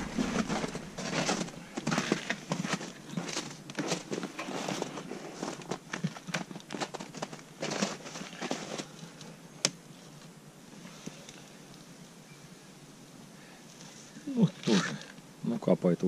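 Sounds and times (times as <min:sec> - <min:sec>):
crunching and scraping of hive roof: 0:00.0 - 0:11.9, 0:13.7 - 0:15.3.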